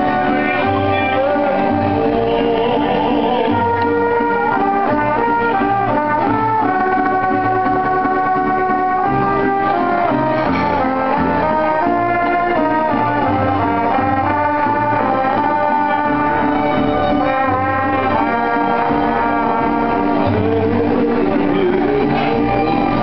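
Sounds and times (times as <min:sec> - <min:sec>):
two trumpets playing a melody: 0:00.0 - 0:01.9, 0:03.5 - 0:20.6
bass notes: 0:00.0 - 0:23.0.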